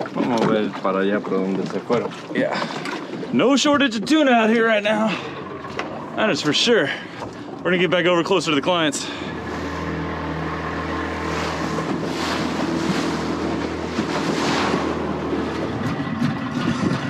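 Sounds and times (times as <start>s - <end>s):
outboard motor running: 0.0s - 17.0s
rushing water: 0.0s - 17.0s
wind: 0.0s - 17.0s.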